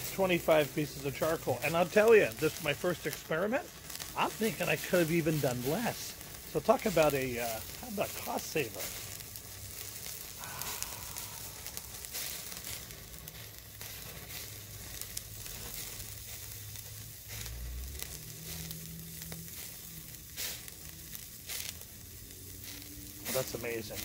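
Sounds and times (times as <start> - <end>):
burger patty sizzling on a grate: 0.0 - 24.0
charcoal popping and crackling: 0.0 - 24.0.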